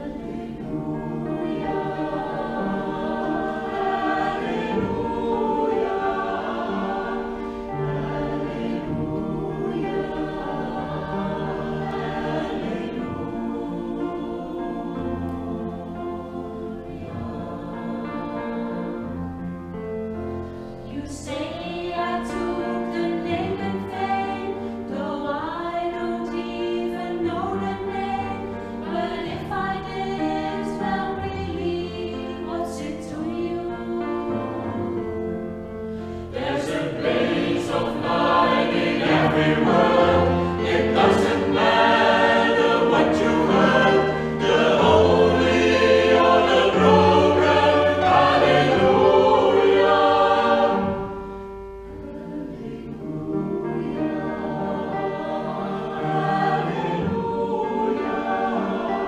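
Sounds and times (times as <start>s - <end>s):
vocal group singing in harmony: 0.0s - 59.0s.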